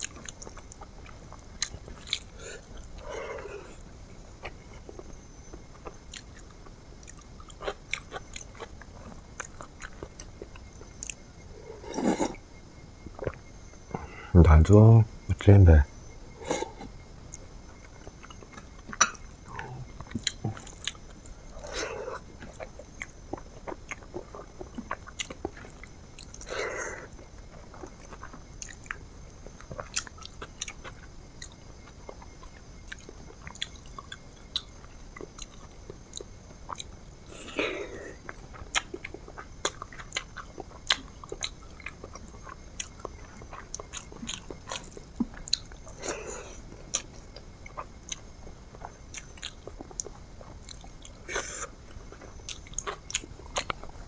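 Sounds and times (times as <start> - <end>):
person chewing food: 0.0 - 12.4, 13.0 - 14.0, 16.3 - 54.0.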